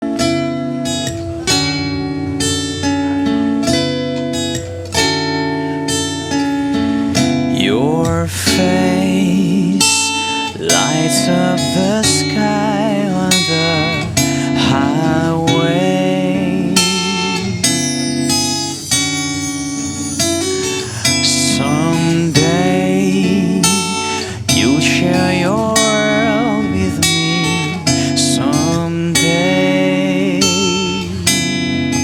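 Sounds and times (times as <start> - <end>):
bending sliding lead guitar: 0.0 - 32.0
strummed guitar chords: 0.0 - 32.0.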